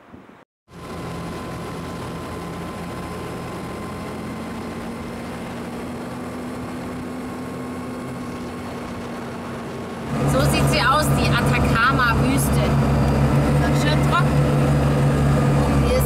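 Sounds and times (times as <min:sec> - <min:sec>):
road and wind noise: 0:00.0 - 0:16.0
truck engine drone: 0:00.0 - 0:16.0
steady hum: 0:00.2 - 0:16.0.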